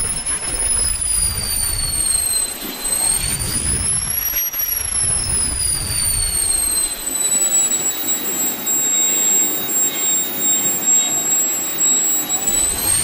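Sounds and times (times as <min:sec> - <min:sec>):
jet turbine whine: 0:00.0 - 0:13.0
rushing exhaust noise: 0:00.0 - 0:13.0.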